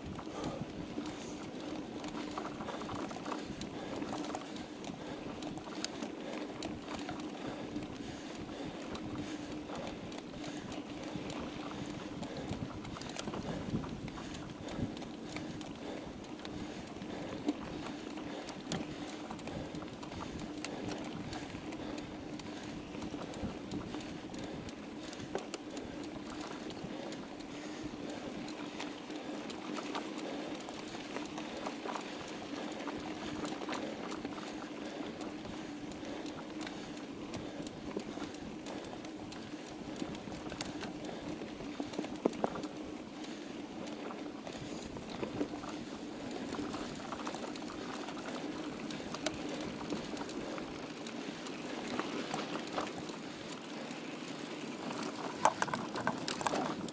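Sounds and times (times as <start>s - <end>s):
bike clicks and rattles: 0.0s - 56.9s
bike tyres and drivetrain hum: 0.0s - 56.9s.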